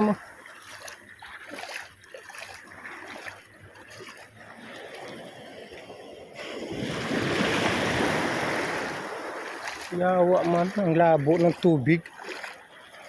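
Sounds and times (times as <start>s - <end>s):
seawater washing and sloshing: 0.0s - 13.0s.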